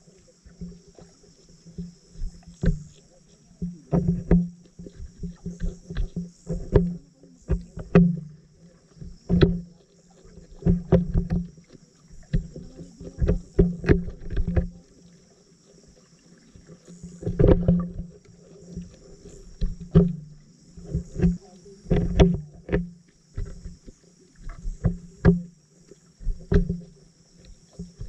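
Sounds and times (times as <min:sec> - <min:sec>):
underwater knocks and clicks: 0:00.0 - 0:28.0.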